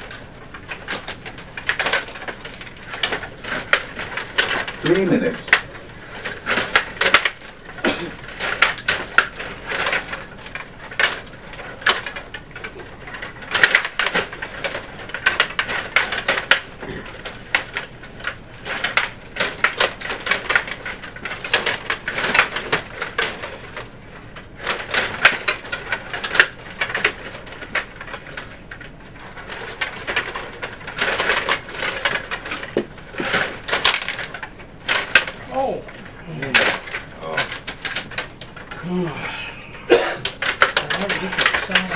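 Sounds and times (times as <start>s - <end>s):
table hockey clicks and knocks: 0.0s - 23.9s, 24.6s - 38.8s, 39.9s - 41.9s.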